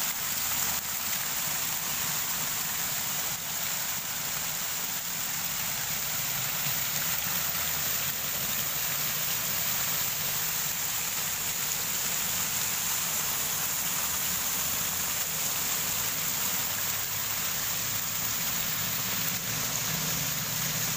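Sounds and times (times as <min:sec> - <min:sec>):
floodwater rushing over an edge: 0:00.0 - 0:20.9.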